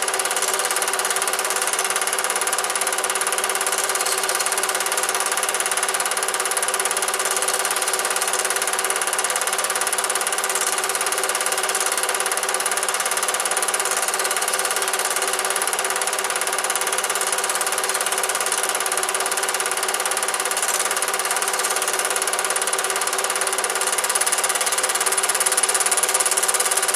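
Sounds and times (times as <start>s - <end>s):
film projector whirring: 0.0s - 26.9s.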